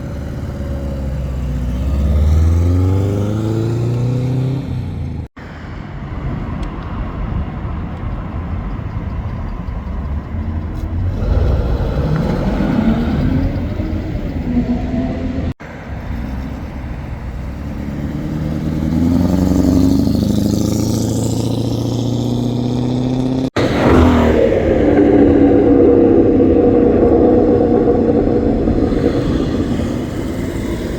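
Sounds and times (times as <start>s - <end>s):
car engines revving: 0.0s - 5.4s, 6.1s - 30.9s.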